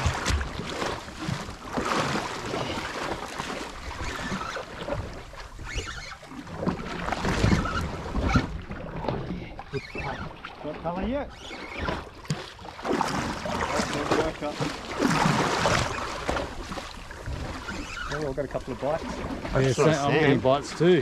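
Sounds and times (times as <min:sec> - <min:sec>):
water splashing against hull: 0:00.0 - 0:21.0.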